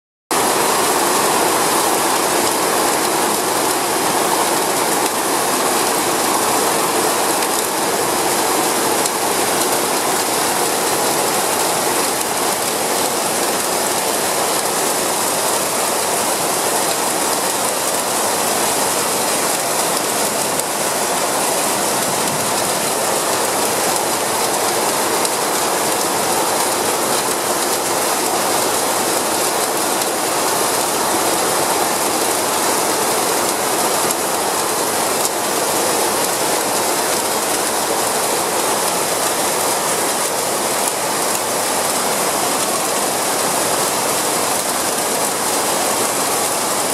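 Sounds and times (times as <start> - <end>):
heavy rain on metal roofs: 0.3 - 46.9.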